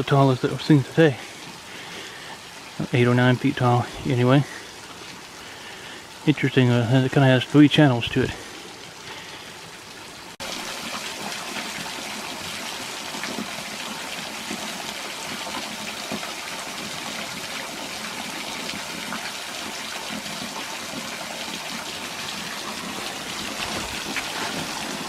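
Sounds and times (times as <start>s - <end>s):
small waterfall splashing: 0.0s - 25.0s.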